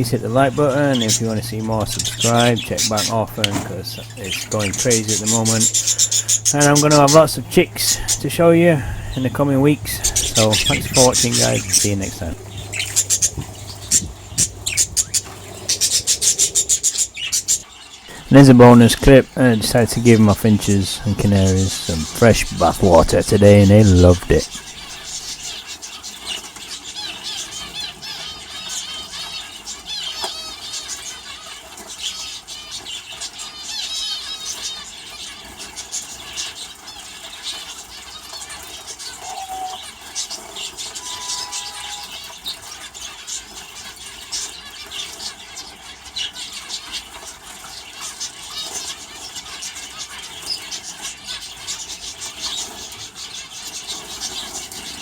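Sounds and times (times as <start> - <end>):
birds splashing in water: 0.0 - 55.0
finches chirping: 0.0 - 55.0.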